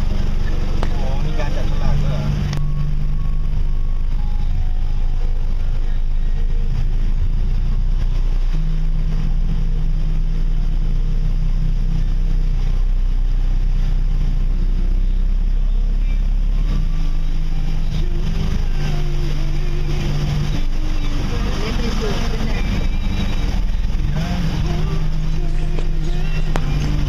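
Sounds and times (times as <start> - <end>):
car driving through floodwater: 0.0 - 27.0
low hum: 0.0 - 27.0.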